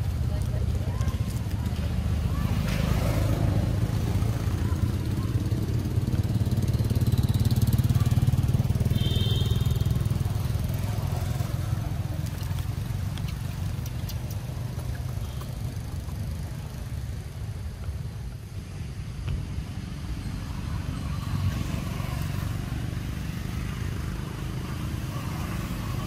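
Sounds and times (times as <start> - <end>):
motorbike engines passing: 0.0 - 26.0.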